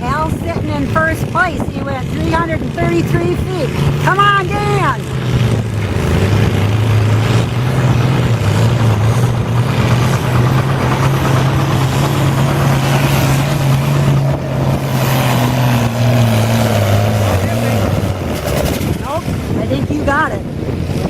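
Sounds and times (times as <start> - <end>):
tractor engine running under load: 0.0 - 21.0.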